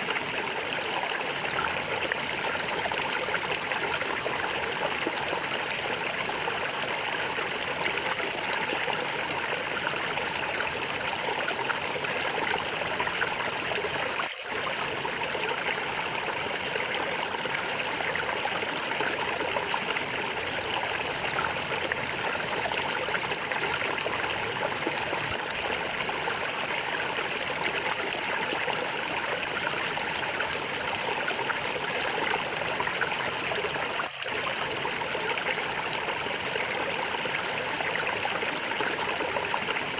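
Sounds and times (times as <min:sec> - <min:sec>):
water gurgling and trickling: 0:00.0 - 0:39.9.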